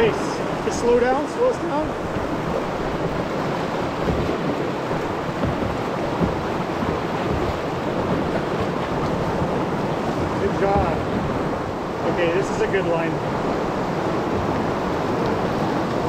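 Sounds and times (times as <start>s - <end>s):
river rapids rushing: 0.0s - 16.0s
wind buffeting microphone: 0.0s - 16.0s.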